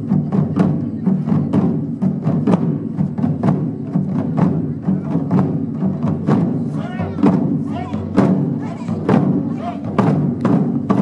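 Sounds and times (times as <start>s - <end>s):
deep drums ringing: 0.0s - 11.0s
drum ensemble striking: 0.0s - 11.0s.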